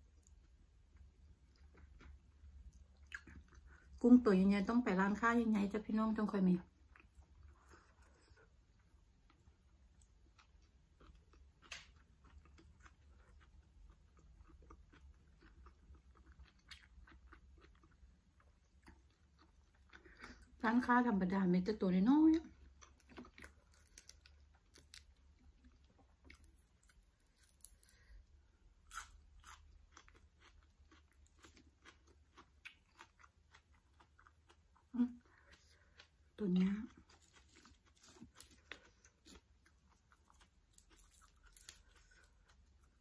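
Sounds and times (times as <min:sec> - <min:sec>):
close-up chewing of food: 0:00.0 - 0:04.0, 0:06.6 - 0:20.6, 0:22.4 - 0:28.2, 0:28.8 - 0:43.0.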